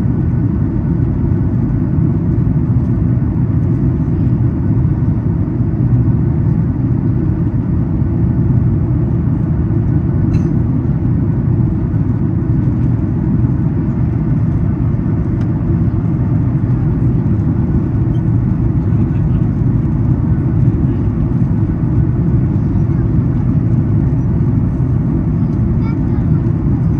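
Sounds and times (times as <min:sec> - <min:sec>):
airplane cabin rumble: 0:00.0 - 0:26.9.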